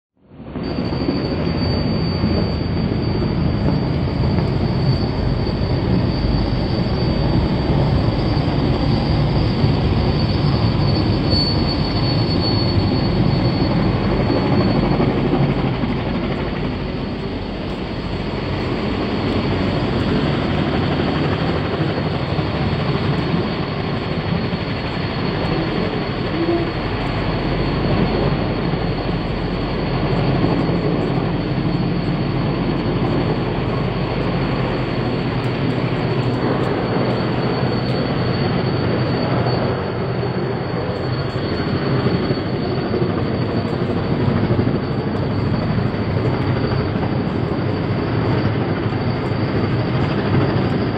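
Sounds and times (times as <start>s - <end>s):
helicopter flying overhead: 0.2s - 50.9s.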